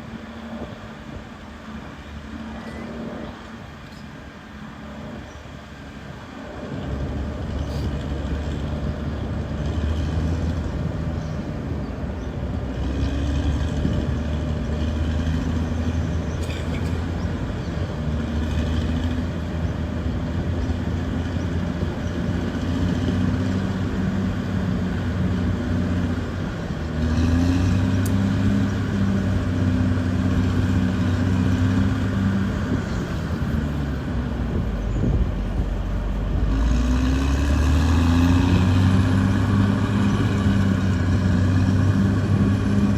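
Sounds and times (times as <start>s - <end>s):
diesel engine revving: 0.0s - 42.9s.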